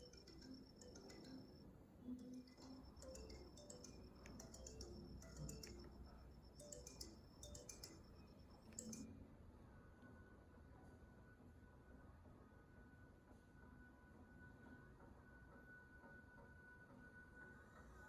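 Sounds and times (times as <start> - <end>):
faint music from small speaker: 0.0 - 18.0.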